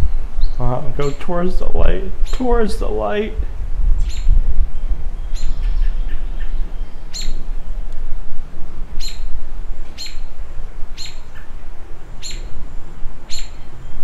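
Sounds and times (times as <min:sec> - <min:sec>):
bird chirping: 0:00.0 - 0:03.0, 0:04.0 - 0:07.5, 0:09.0 - 0:14.0
low steady rumble: 0:00.0 - 0:14.0.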